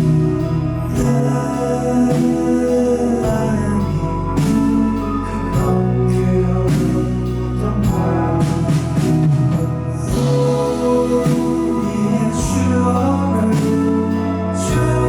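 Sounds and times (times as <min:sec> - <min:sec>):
live rock band instrumental: 0:00.0 - 0:15.0.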